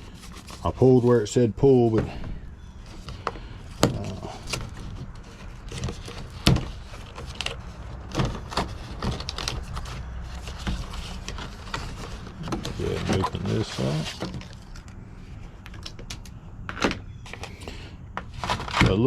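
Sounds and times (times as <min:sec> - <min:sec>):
box packaging clicks and scrapes: 0:00.0 - 0:01.2, 0:01.8 - 0:15.0, 0:15.6 - 0:19.0.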